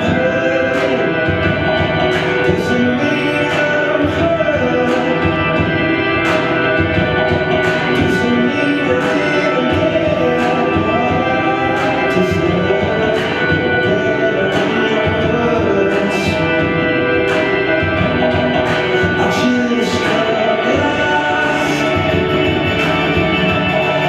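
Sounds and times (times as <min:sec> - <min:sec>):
music with light percussive beat: 0:00.0 - 0:24.0.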